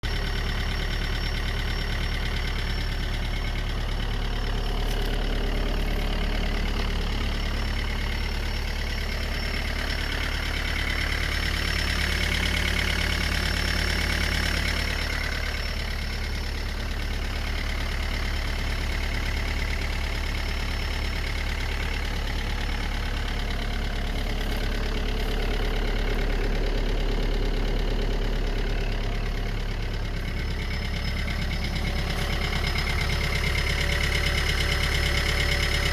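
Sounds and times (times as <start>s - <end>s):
engine idling: 0.0s - 35.9s
extraneous engine noises: 0.0s - 35.9s.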